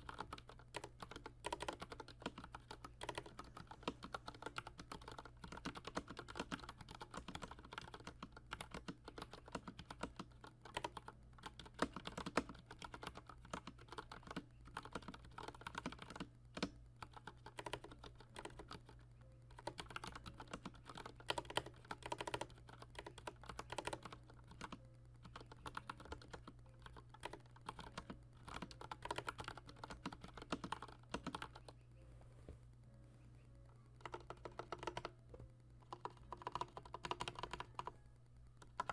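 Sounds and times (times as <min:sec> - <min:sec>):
mechanical keyboard typing: 0:00.0 - 0:31.8, 0:33.9 - 0:35.2, 0:35.8 - 0:38.9
low steady hum: 0:00.0 - 0:38.9.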